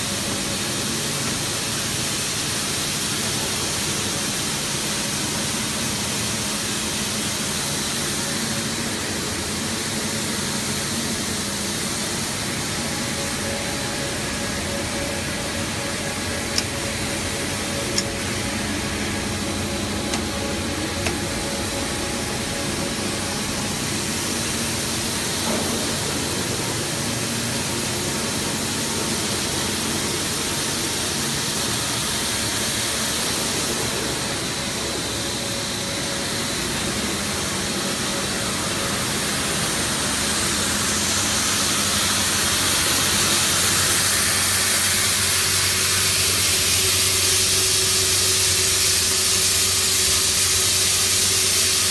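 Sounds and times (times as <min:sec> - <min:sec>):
machine hiss with low hum: 0:00.0 - 0:51.9.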